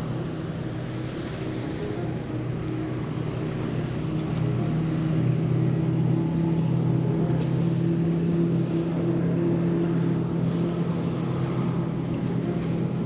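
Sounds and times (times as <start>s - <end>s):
outboard engines droning: 0.0s - 13.0s
rushing water: 0.0s - 13.0s
wind: 0.0s - 13.0s.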